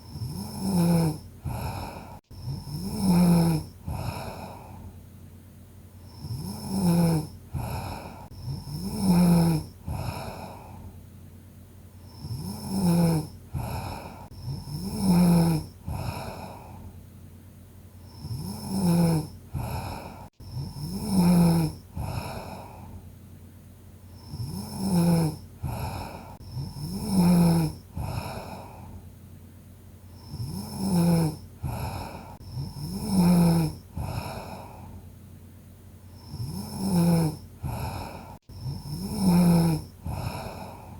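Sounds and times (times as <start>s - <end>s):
person snoring: 0.0s - 5.0s, 6.0s - 11.0s, 12.0s - 17.0s, 18.0s - 23.0s, 24.1s - 29.0s, 30.1s - 35.1s, 36.1s - 40.9s.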